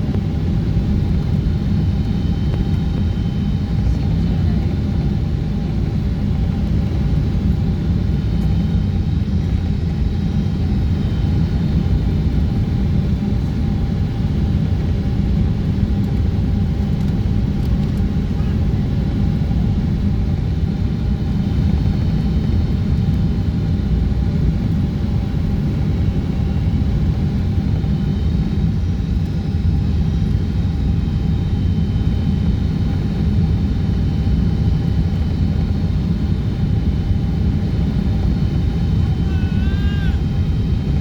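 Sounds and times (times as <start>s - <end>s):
airplane cabin engine rumble: 0.0s - 41.0s.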